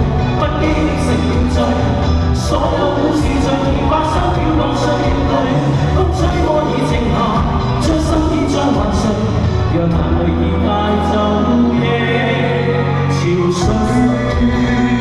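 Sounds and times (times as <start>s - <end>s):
pop band music: 0.0s - 15.0s.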